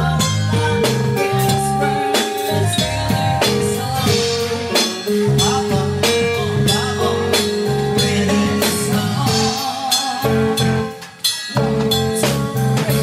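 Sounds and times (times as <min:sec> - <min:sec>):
band playing instrumental: 0:00.0 - 0:13.0
drum-kit beat: 0:00.0 - 0:13.0.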